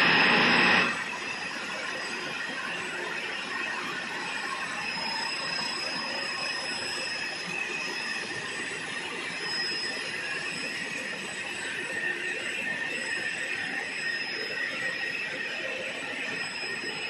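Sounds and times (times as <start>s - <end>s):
steady mechanical noise: 0.0s - 17.0s
thin high whine: 0.0s - 17.0s.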